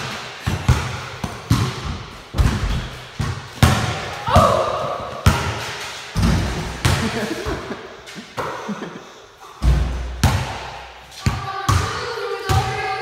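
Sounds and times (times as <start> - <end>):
basketball thudding in echoing room: 0.0 - 13.0.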